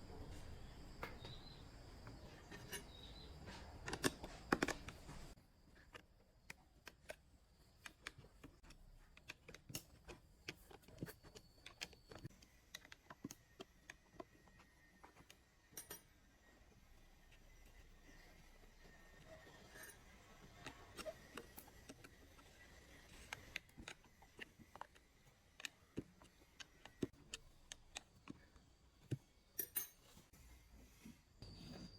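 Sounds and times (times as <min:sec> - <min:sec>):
tools clicking and tapping: 0:00.9 - 0:16.2, 0:19.1 - 0:30.2.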